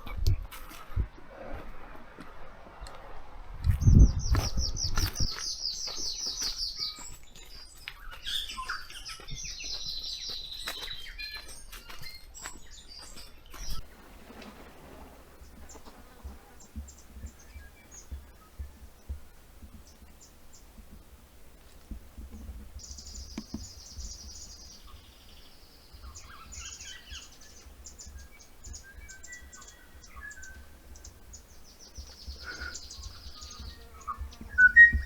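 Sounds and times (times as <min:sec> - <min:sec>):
songbirds singing: 0:03.7 - 0:35.0.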